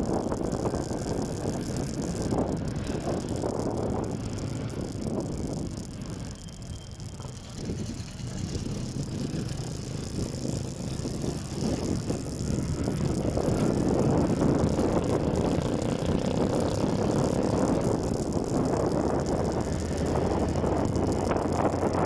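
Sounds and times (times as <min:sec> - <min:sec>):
road and traffic rumble: 0:00.0 - 0:22.0
wind buffeting microphone: 0:00.0 - 0:22.0.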